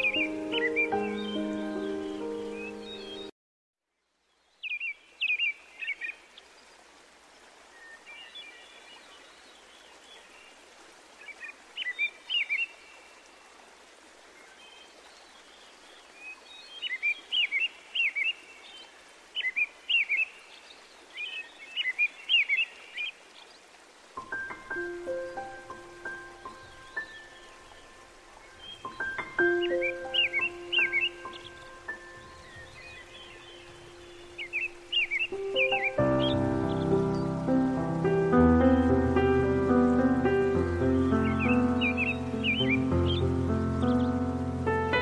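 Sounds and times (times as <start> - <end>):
faint steady outdoor hiss: 0.0 - 3.3, 3.9 - 45.0
songbirds chirping: 0.0 - 3.3, 4.0 - 45.0.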